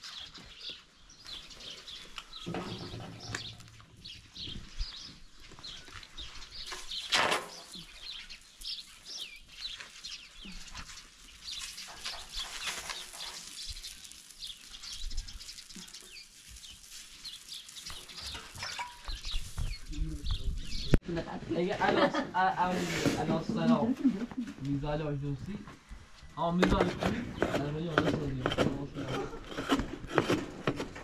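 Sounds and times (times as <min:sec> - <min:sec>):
small birds chirping: 0:00.0 - 0:21.0, 0:22.6 - 0:29.1.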